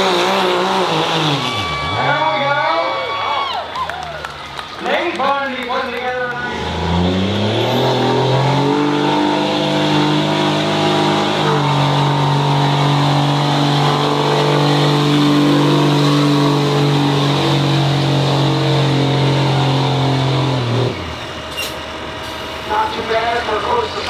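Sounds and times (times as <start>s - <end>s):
diesel truck engine at high revs: 0.0s - 24.0s.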